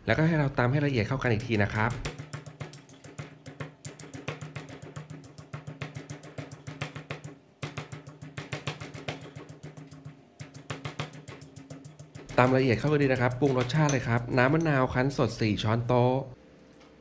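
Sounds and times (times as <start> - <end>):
pestle pounding in stone mortar: 0.7 - 15.4.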